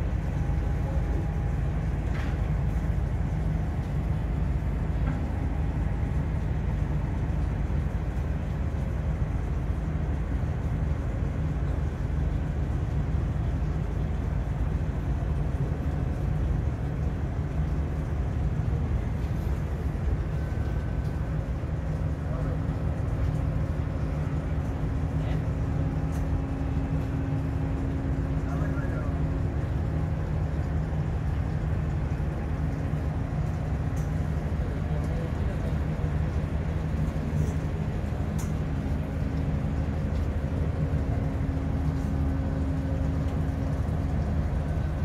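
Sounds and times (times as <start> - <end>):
boat engine rumbling: 0.0 - 45.0.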